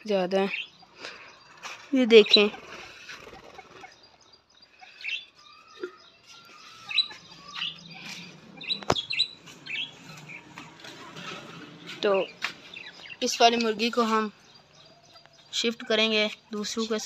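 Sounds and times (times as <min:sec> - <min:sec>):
budgerigars chirping: 0:00.4 - 0:17.0.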